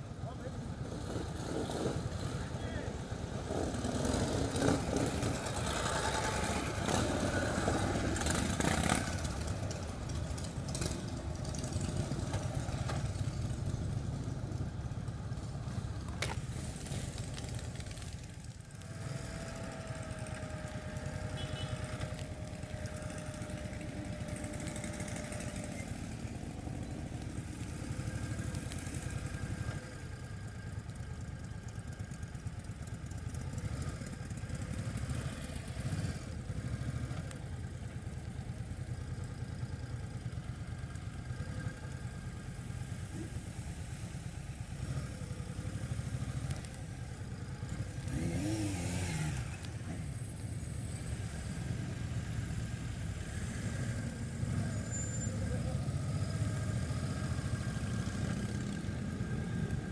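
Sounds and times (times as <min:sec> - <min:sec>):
motorcycle engine running: 0:03.2 - 0:59.9.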